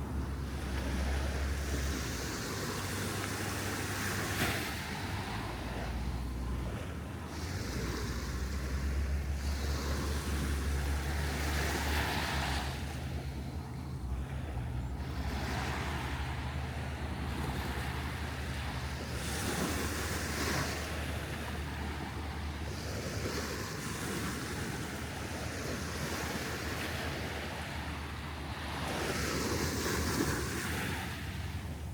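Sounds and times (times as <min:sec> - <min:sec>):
surf washing onto beach: 0:00.0 - 0:13.5, 0:14.5 - 0:31.9.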